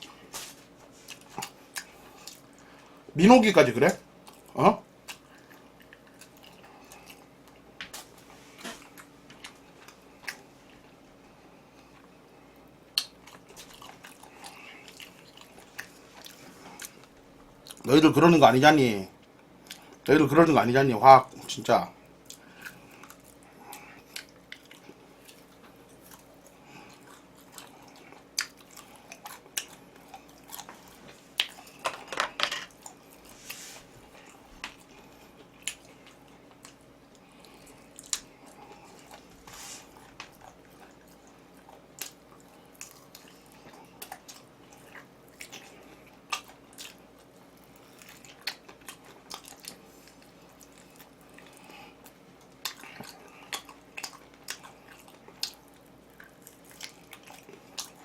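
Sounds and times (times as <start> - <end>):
person chewing food: 0.0 - 3.1, 4.1 - 17.9, 19.4 - 20.1, 22.0 - 58.0.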